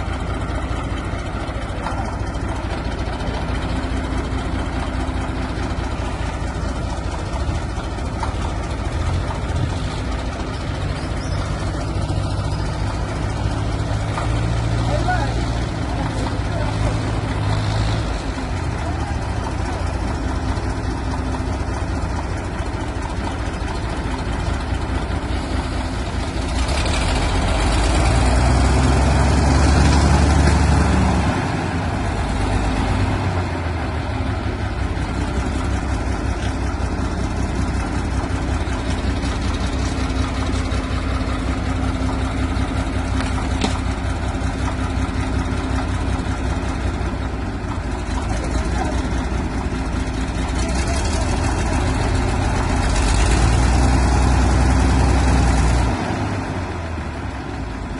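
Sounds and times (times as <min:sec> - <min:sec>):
diesel engine idling and revving: 0:00.0 - 0:57.9.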